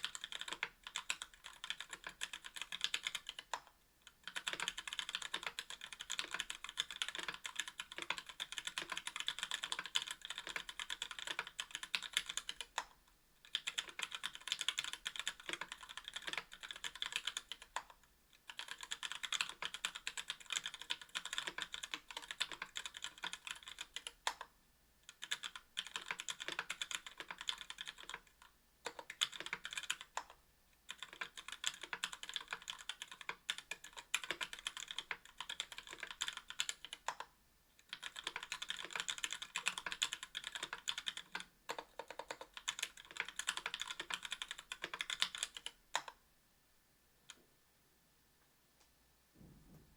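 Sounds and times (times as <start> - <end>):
mechanical keyboard typing: 0.0 - 46.2.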